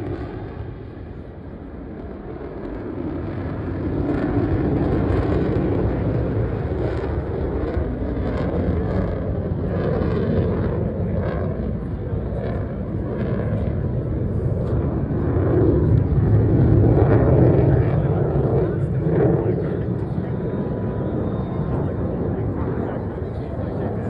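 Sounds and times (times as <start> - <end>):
fighter jet flying overhead: 0.0 - 24.0.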